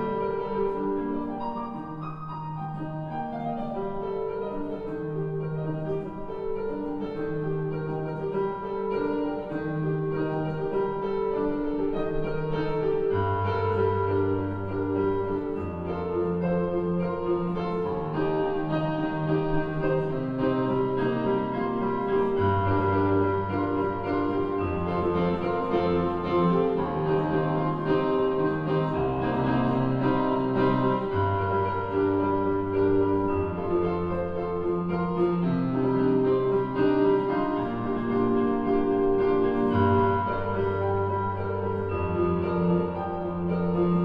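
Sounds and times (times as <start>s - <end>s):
slow piano chords: 0.0s - 44.0s.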